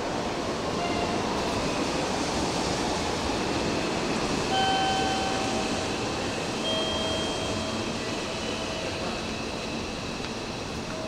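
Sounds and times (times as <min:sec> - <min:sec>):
electric train rail noise: 0:00.0 - 0:11.0.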